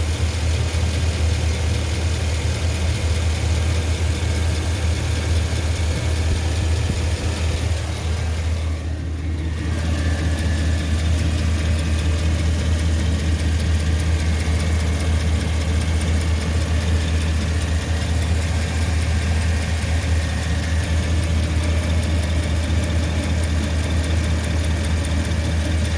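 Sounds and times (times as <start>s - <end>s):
truck engine idling with ticking: 0.0s - 25.9s.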